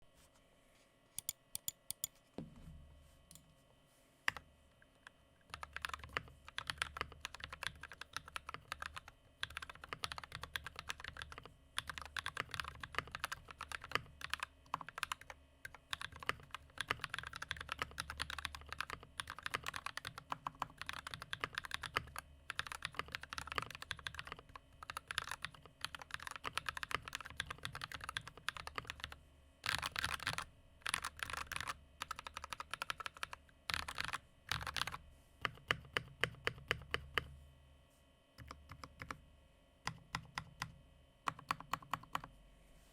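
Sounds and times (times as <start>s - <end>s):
mechanical keyboard typing: 1.2s - 2.1s, 5.5s - 37.3s, 38.4s - 39.2s, 39.9s - 42.3s.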